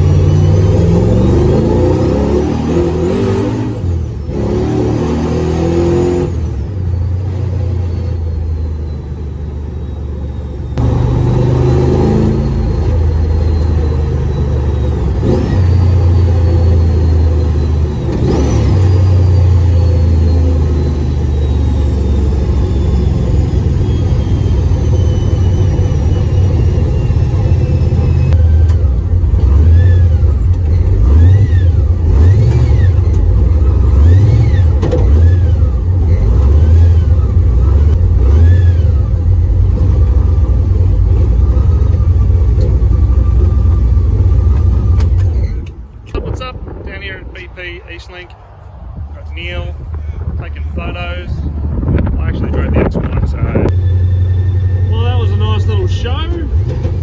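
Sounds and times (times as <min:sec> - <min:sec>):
deep car engine drone: 0:00.0 - 0:57.0.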